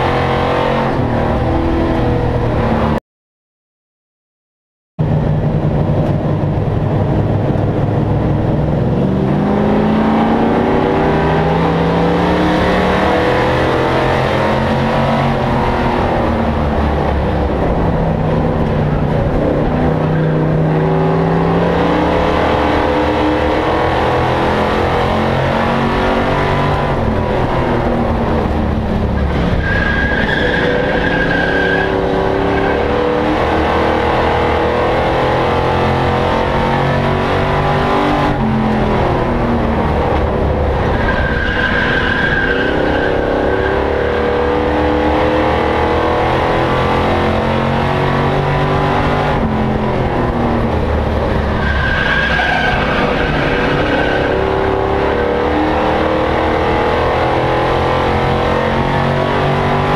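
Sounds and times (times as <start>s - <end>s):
race truck engine revving: 5.2s - 59.9s.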